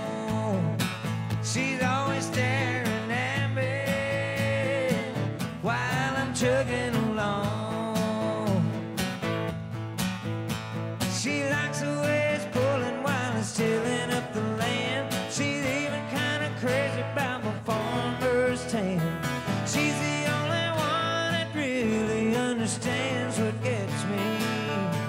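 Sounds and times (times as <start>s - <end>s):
man singing: 0.0s - 9.0s, 11.0s - 25.0s
acoustic guitars: 0.0s - 25.0s.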